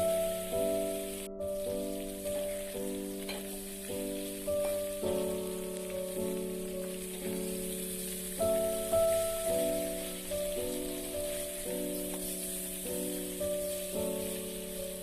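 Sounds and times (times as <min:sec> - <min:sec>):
background music with held notes: 0:00.0 - 0:15.0
chicken wings sizzling: 0:00.0 - 0:15.0.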